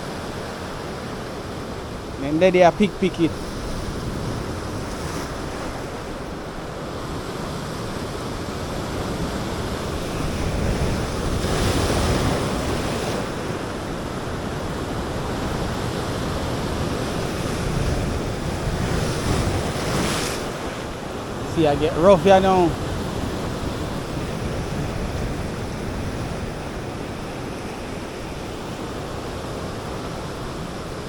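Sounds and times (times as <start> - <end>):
surf washing against rocks: 0.0 - 31.0.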